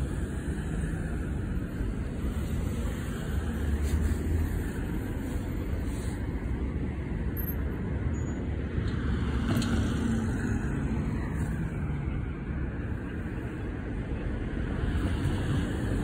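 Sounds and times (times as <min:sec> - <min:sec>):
vehicles driving past: 0:00.0 - 0:16.0.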